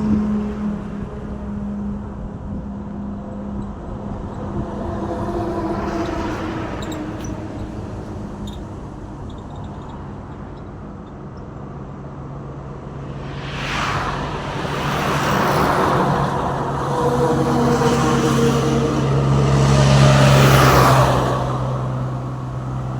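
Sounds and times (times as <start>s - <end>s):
heavy engine hum: 0.0s - 22.9s
traffic passing: 0.0s - 22.9s.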